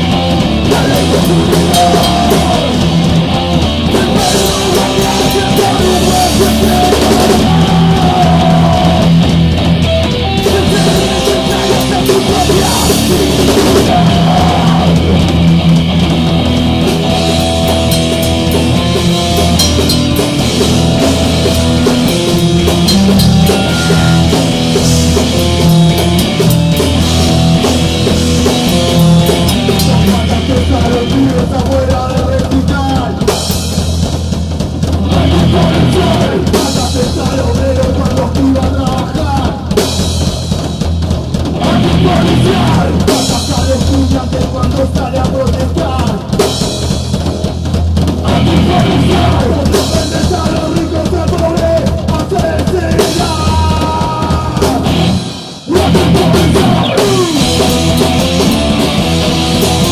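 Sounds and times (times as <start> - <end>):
punk rock band playing: 0.0 - 59.9.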